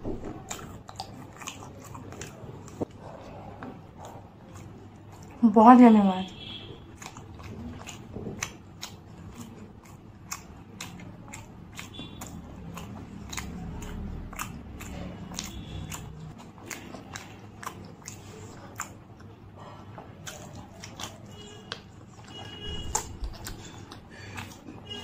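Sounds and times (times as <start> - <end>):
wet chewing with mouth smacks: 0.0 - 25.0.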